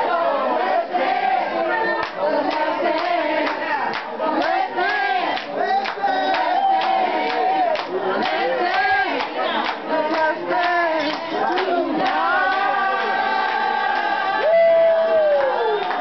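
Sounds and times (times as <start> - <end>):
crowd singing along: 0.0 - 15.9.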